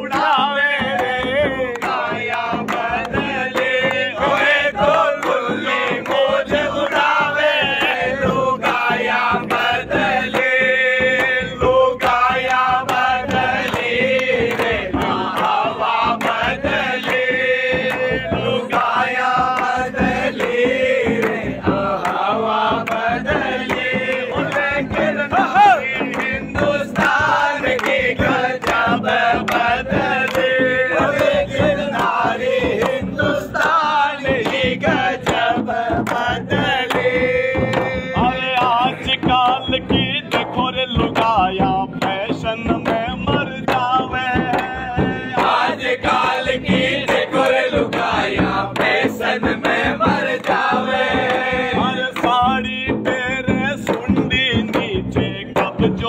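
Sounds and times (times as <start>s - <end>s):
frame drum beaten by hand: 0.0s - 56.0s
men singing with chorus: 0.0s - 56.0s.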